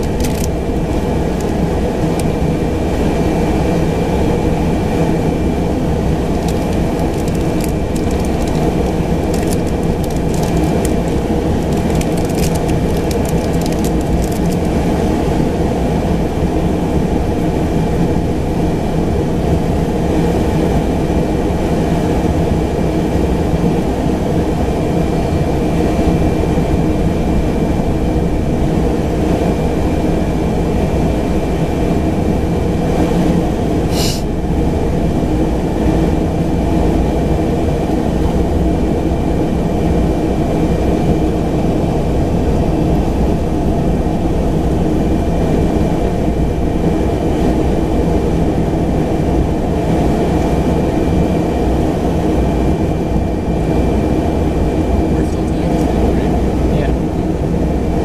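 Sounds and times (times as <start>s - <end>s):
turboprop engine rumble and whine: 0.0s - 58.0s.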